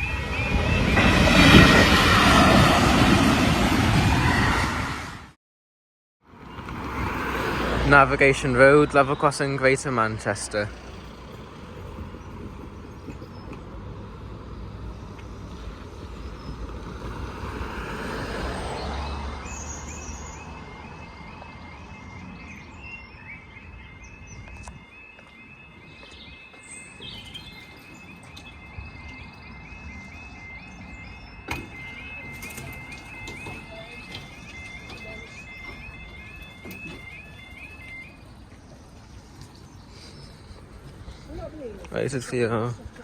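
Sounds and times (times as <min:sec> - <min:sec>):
road vehicle passing: 0:00.0 - 0:05.4, 0:06.2 - 0:43.0.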